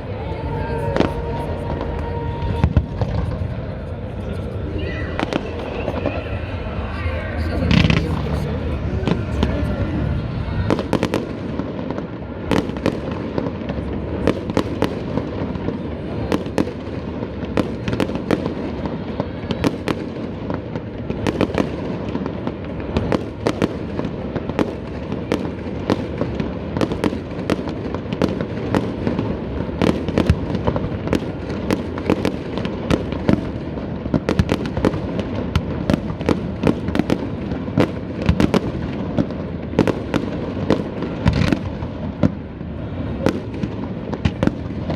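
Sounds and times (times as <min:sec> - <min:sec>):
fireworks bangs and cracks: 0:00.0 - 0:44.9.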